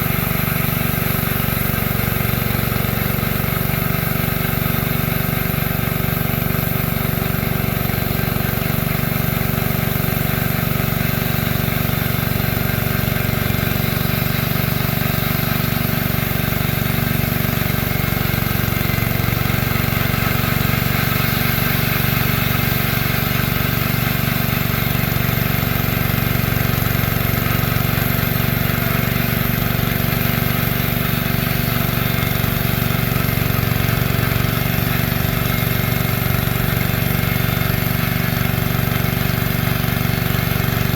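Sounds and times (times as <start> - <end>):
small petrol engine running: 0.0 - 40.9.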